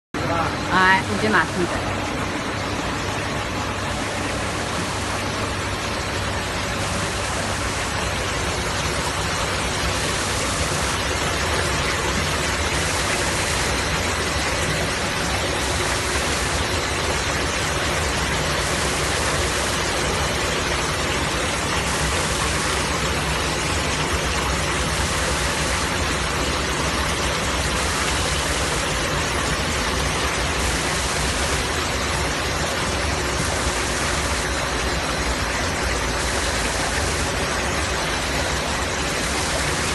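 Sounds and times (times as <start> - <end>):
low machine hum: 0.2 - 39.9
water splashing through machine: 0.2 - 39.9.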